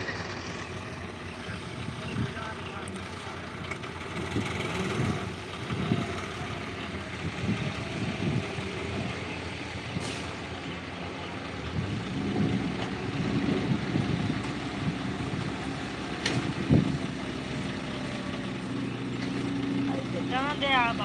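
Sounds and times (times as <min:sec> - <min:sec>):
diesel engines rumbling: 0:00.0 - 0:21.0.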